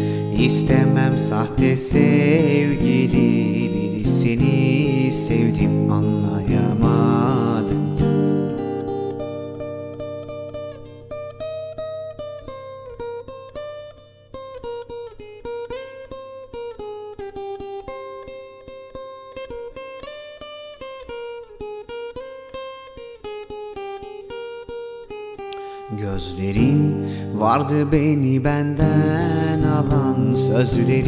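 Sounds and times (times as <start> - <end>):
acoustic guitar picking: 0.0 - 31.0.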